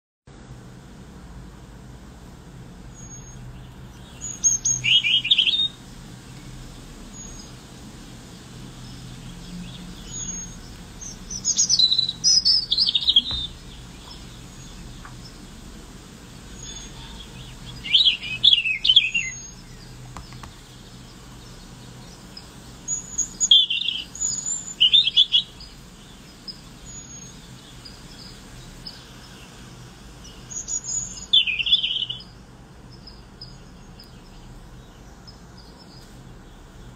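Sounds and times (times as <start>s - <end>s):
faint steady hum: 0.3s - 36.9s
songbird singing: 0.4s - 36.9s
faint bird chirps: 2.9s - 36.9s.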